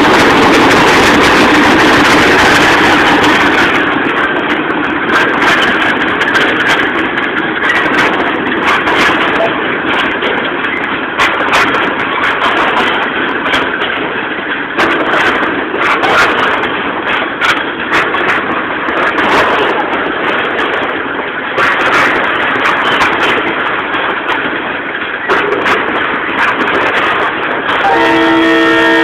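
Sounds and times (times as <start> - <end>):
diesel locomotive engine running: 0.0 - 29.0
freight cars rolling on rails: 0.0 - 29.0.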